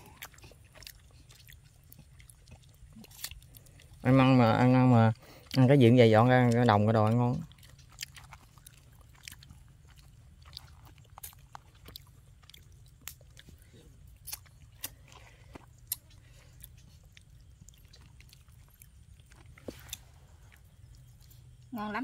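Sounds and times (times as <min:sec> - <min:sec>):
low background rumble: 0:00.0 - 0:22.0
person chewing with wet clicks: 0:00.0 - 0:22.0.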